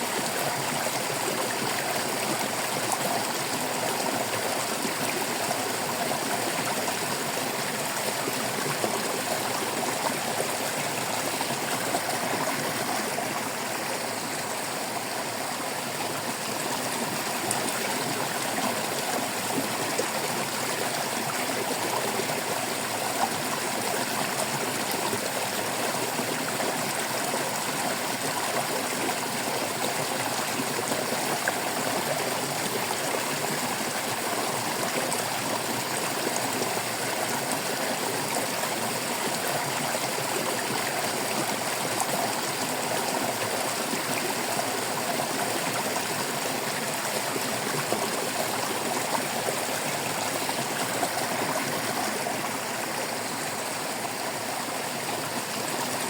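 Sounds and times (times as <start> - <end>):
stream splashing over stones: 0.0 - 56.0.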